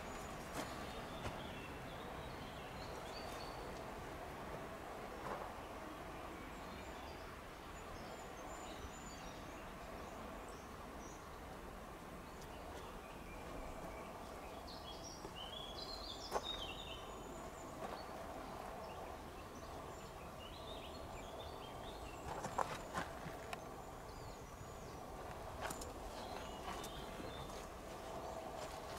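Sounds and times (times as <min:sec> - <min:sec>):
steady background hiss: 0:00.0 - 0:28.9.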